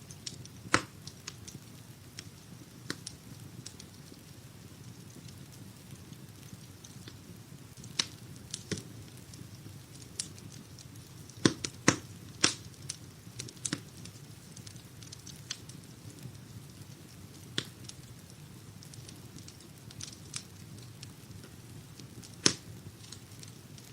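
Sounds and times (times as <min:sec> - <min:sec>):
low rumble of burning: 0:00.0 - 0:23.9
wood fire crackling and popping: 0:00.0 - 0:23.9.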